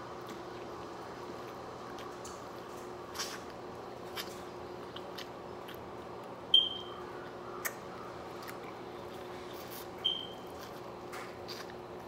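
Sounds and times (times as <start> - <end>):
chewing corn on the cob: 0.0 - 6.4, 7.1 - 12.0
faint steady hum: 0.0 - 12.0.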